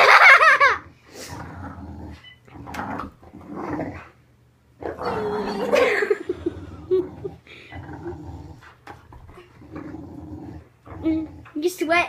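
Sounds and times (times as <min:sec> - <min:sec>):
dog growling: 0:01.2 - 0:04.2, 0:04.8 - 0:11.6.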